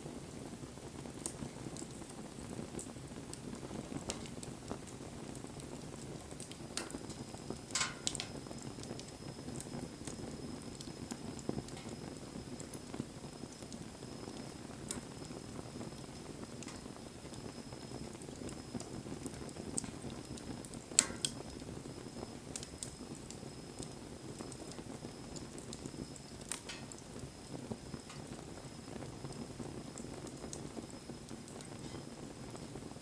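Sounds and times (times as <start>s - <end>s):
campfire flames rushing: 0.0s - 33.0s
fire crackling: 0.0s - 33.0s
fire popping: 0.0s - 33.0s.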